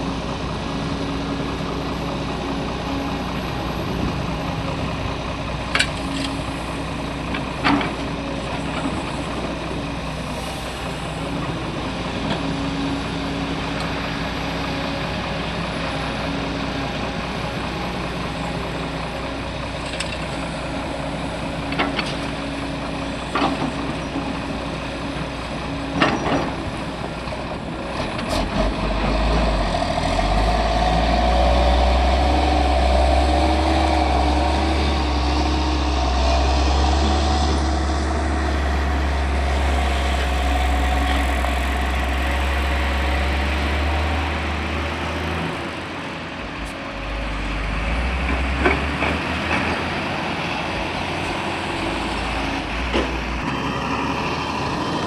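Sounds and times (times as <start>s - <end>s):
deep engine rumble: 0.0s - 55.0s
heavy diesel machinery running: 0.0s - 55.0s.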